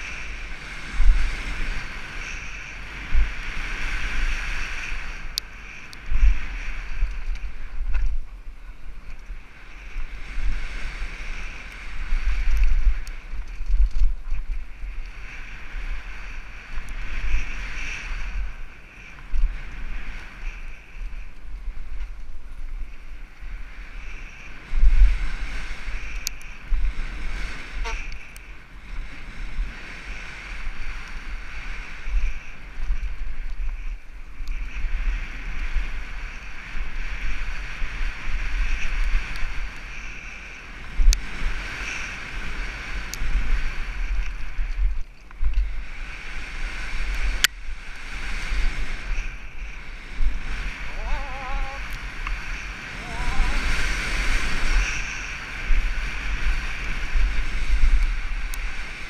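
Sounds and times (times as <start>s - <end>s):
bike tyre and frame rattle: 0.0s - 59.0s
wind buffeting microphone: 0.0s - 59.0s.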